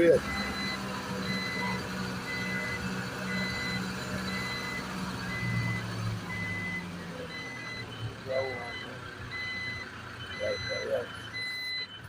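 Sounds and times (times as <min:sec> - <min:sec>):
diesel engine running: 0:00.0 - 0:12.0
truck reversing alarm beeping: 0:00.0 - 0:12.0.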